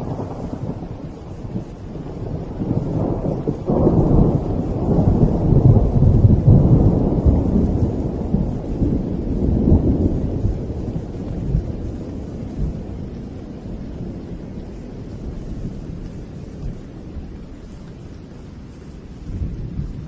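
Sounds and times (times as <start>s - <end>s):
rolling thunder: 0.0s - 20.0s
steady rain: 0.0s - 20.0s.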